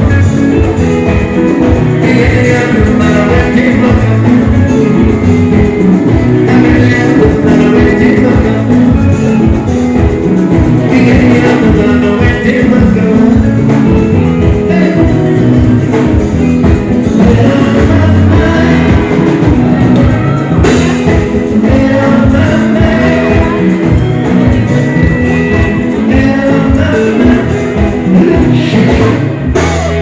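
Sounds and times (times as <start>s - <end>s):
live band playing: 0.0s - 30.0s
person singing: 0.0s - 30.0s.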